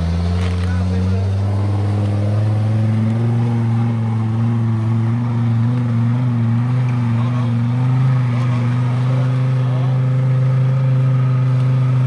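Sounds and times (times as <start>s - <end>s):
off-road buggy engine under load: 0.0s - 12.0s.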